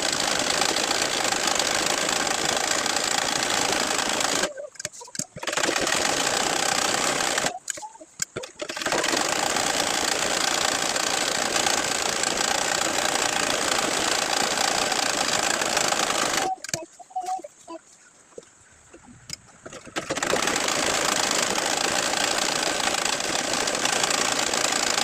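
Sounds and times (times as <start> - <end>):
sewing machine stitching: 0.0 - 16.8, 19.7 - 25.0.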